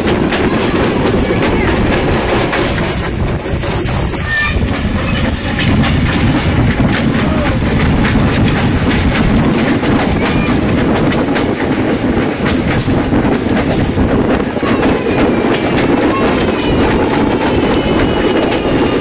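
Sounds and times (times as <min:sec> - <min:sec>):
train wheels rumbling on rail: 0:00.0 - 0:19.0
wind rushing across microphone: 0:00.0 - 0:19.0.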